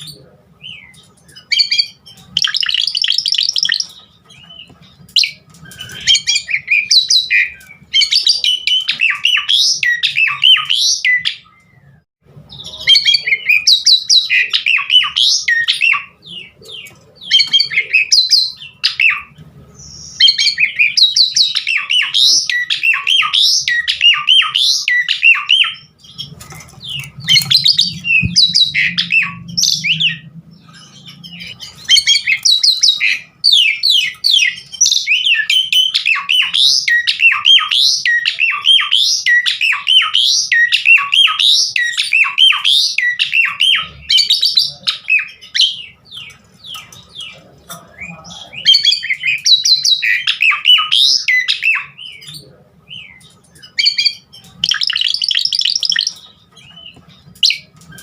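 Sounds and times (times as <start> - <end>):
starling singing: 0.0 - 58.0.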